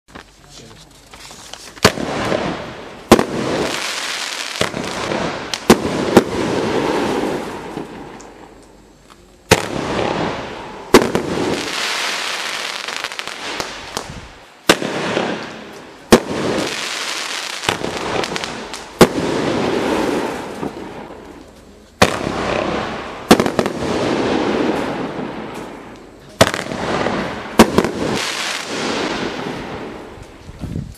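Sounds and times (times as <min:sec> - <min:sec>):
dense fireworks crackling: 0:00.1 - 0:30.9
fireworks shots firing: 0:01.8 - 0:08.6, 0:09.5 - 0:21.4, 0:22.0 - 0:30.4.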